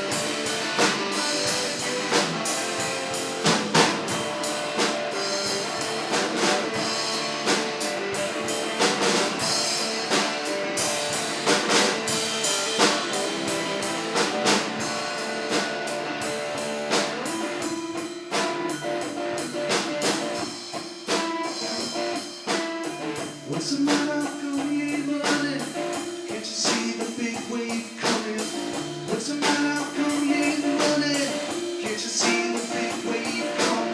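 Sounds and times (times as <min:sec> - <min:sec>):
drum kit steady beat: 0:00.0 - 0:33.9
guitar: 0:00.0 - 0:33.9.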